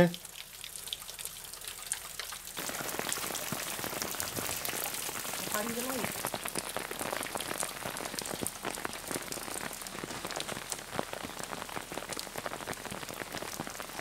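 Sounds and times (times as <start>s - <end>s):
wet snow and drops pattering: 2.6s - 14.0s.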